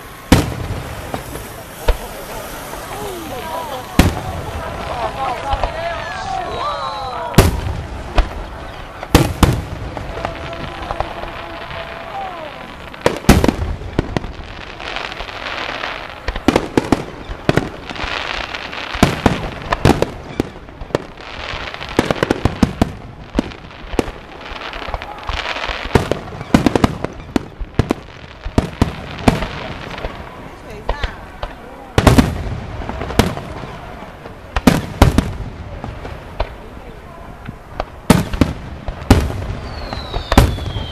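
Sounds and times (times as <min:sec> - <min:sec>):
firework shells bursting with bangs: 0:00.0 - 0:06.6, 0:07.3 - 0:40.9
firework crackling: 0:00.0 - 0:40.9.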